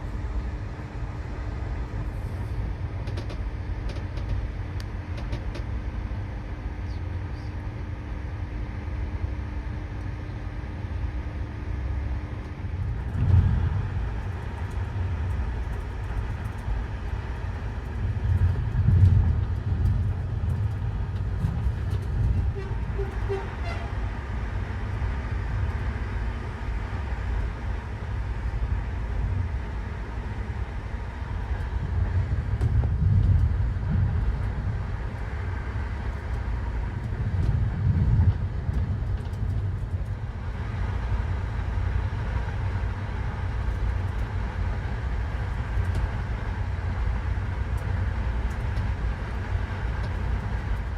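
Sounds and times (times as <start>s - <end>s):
moving vehicle rumble: 0.0s - 50.9s.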